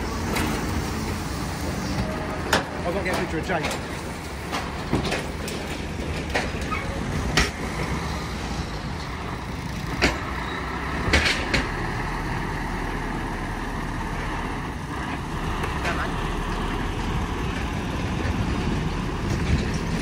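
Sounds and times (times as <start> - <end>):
lorry engine running: 0.0 - 20.0.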